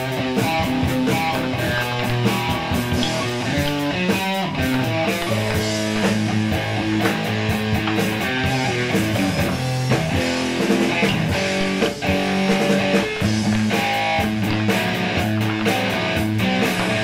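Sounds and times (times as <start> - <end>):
guitar music over a beat: 0.0 - 17.0.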